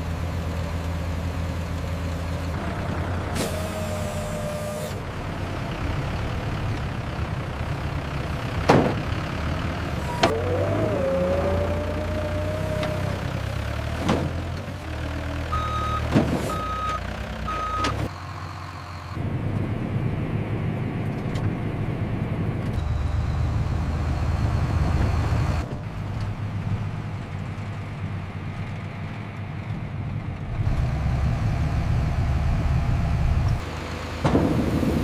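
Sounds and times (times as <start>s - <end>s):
heavy factory machinery rumbling: 0.0s - 35.0s.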